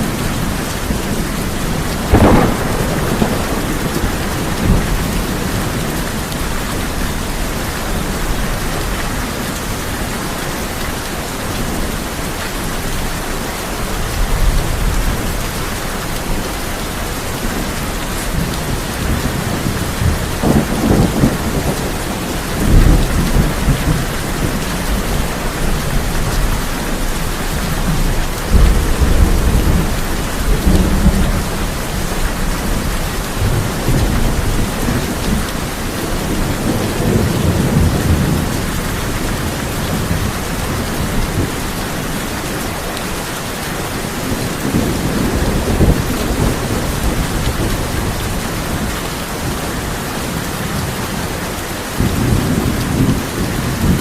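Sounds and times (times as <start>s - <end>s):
thunder rumbling: 0.0s - 9.5s, 13.8s - 42.1s, 44.0s - 49.9s
heavy rain on a tin roof: 0.0s - 54.0s.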